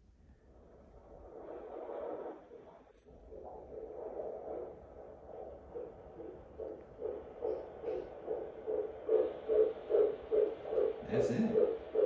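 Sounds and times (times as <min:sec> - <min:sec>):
fetal heartbeat through doppler speaker: 0:00.0 - 0:12.0.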